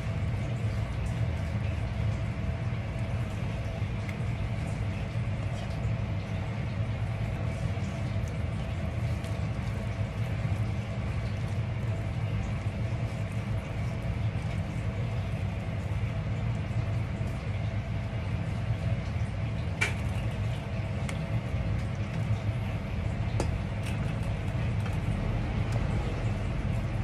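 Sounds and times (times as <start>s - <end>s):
kitchen mechanical hum: 0.0s - 27.0s.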